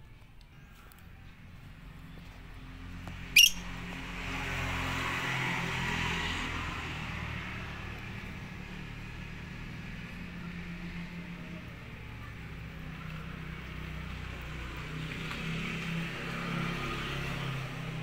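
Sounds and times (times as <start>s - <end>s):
low engine hum: 0.0s - 18.0s
vehicle passing by: 0.7s - 18.0s.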